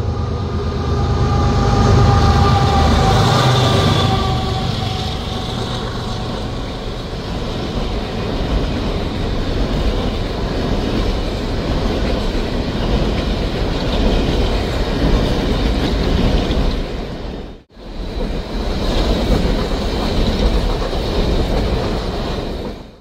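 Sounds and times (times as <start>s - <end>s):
train wheels rumbling and clattering: 0.0s - 23.0s.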